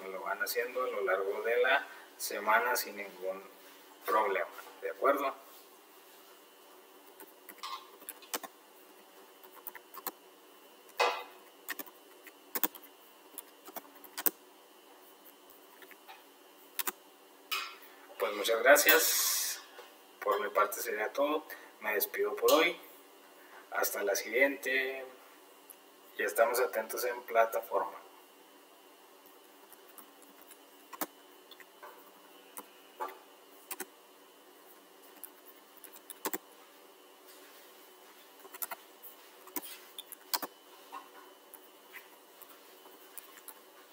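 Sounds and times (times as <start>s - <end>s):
faint background hiss: 0.0s - 43.9s.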